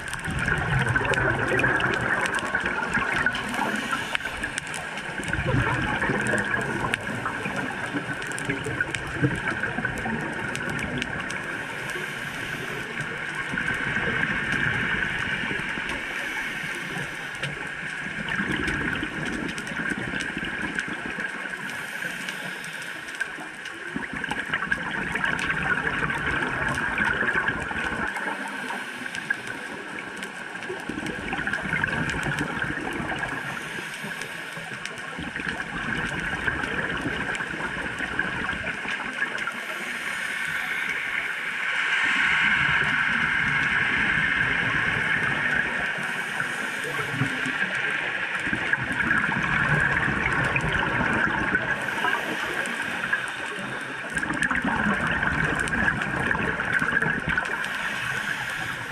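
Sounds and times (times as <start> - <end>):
muffled underwater hiss: 0.0 - 58.9
scuba regulator bubbles: 0.0 - 58.9.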